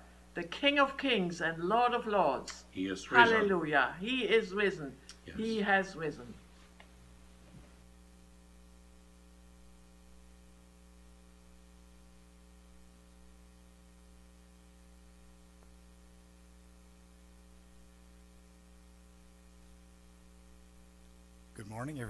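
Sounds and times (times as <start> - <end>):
faint electrical hum: 0.0 - 22.0
soft hiss: 0.0 - 22.0.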